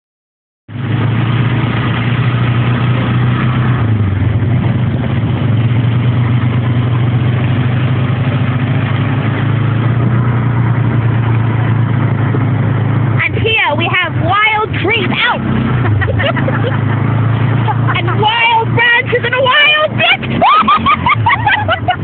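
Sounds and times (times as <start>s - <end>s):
atv engine running: 0.7s - 22.0s.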